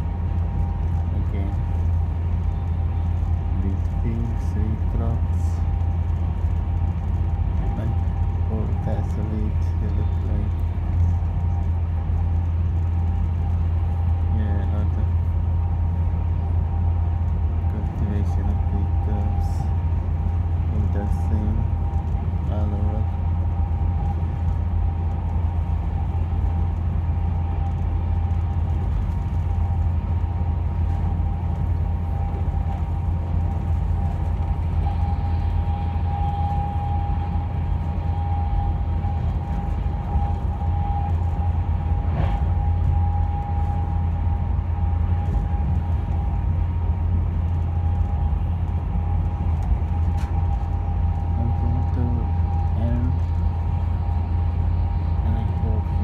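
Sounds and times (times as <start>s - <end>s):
high whine: 0.0s - 56.0s
train rumble: 0.0s - 56.0s.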